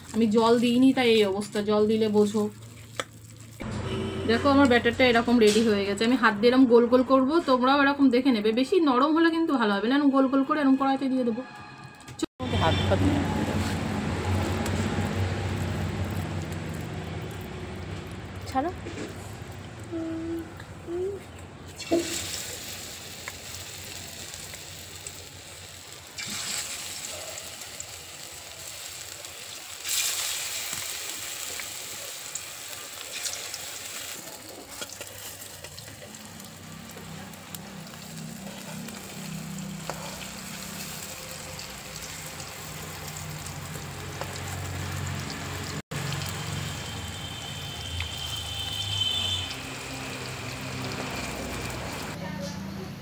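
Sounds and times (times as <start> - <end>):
fritters sizzling in hot oil: 0.0 - 3.7, 12.8 - 52.2.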